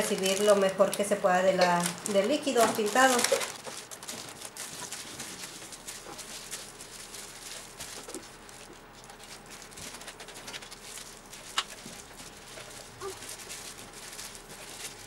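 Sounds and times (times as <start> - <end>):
wet paper squishing: 0.0 - 15.0
wooden skewers clicking and rattling: 0.0 - 15.0.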